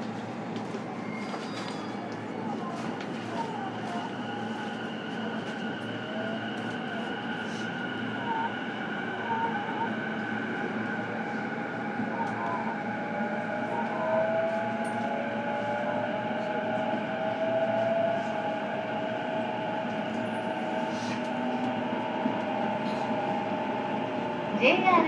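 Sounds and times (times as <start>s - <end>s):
train electrical hum and whine: 0.0s - 25.0s.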